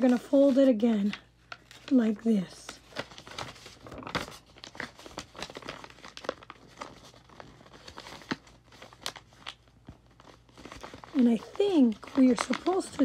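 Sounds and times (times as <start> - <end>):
paper crackling: 0.0 - 13.0
paper rustling and crinkling: 0.0 - 13.0.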